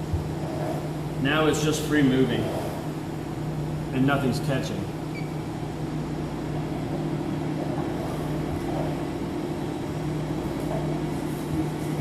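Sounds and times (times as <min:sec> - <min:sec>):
treadmill motor and belt humming: 0:00.0 - 0:12.0.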